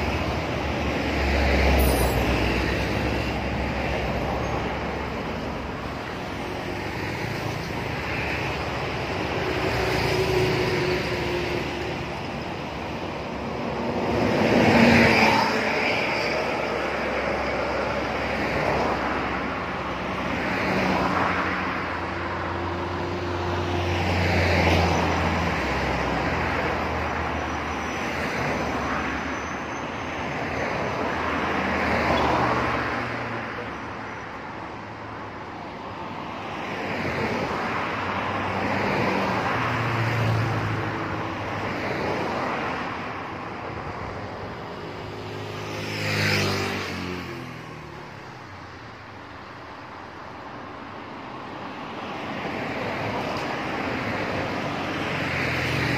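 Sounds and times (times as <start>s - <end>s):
vehicles passing: 0.0s - 55.9s.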